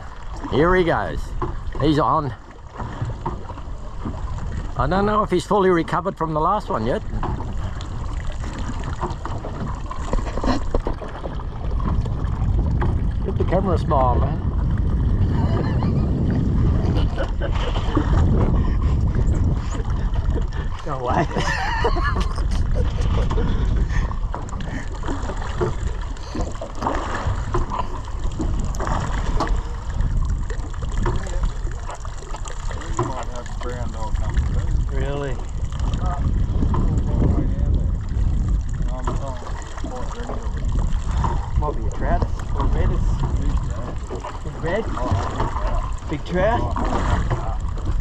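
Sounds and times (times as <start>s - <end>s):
water slapping against boat hull: 0.0s - 48.0s
wind rumbling on microphone: 0.0s - 48.0s.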